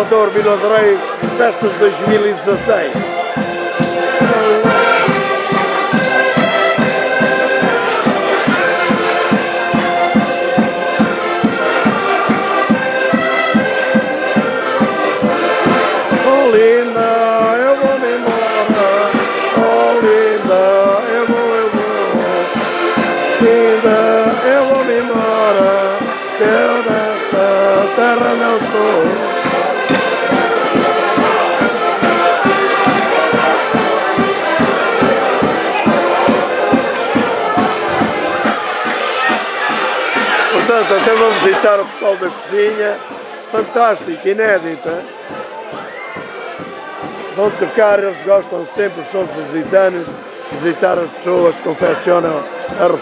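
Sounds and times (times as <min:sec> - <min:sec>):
steady drum beat: 0:00.0 - 0:42.4
street band playing lively tune: 0:00.0 - 0:53.0.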